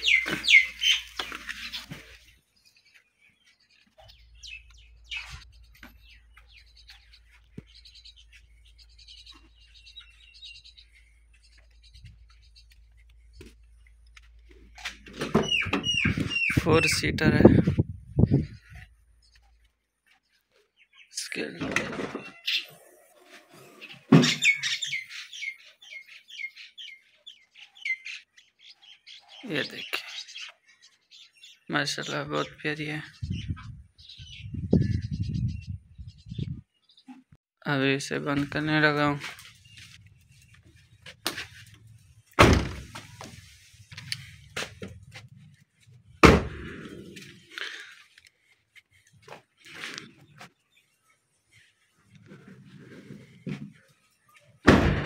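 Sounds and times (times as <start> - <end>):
small birds chirping: 0.0 - 54.6.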